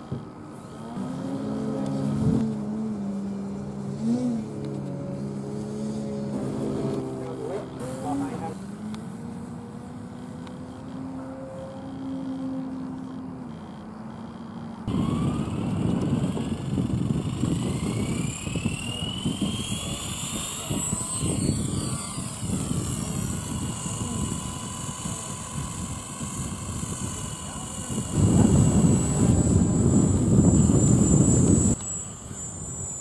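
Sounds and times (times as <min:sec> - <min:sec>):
rc helicopter whine: 0:00.0 - 0:33.0.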